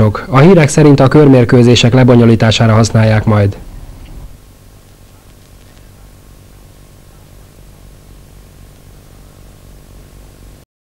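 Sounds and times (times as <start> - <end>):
steady tape hiss: 0.0 - 10.6
low mains hum: 0.0 - 10.7.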